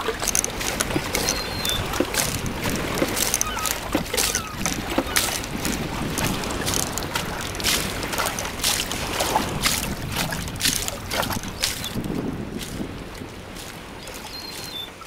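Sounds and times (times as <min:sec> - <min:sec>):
water sloshing in plastic tub: 0:00.0 - 0:15.0.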